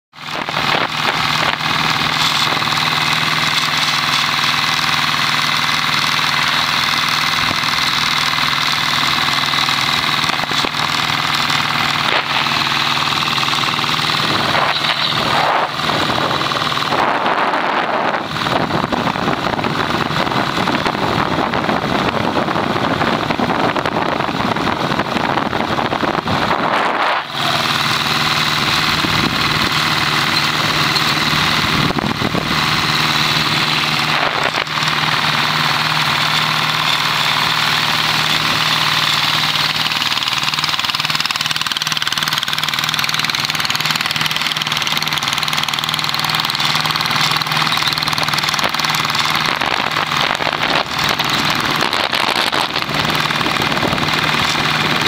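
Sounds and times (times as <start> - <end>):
motorcycle engine running: 0.1 - 55.0
wind and road noise: 0.1 - 55.0.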